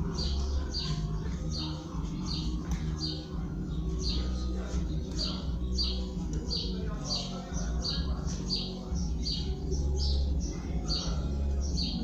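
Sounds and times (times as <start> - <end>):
bird chirping: 0.0 - 12.0
steady low hum: 0.0 - 12.0.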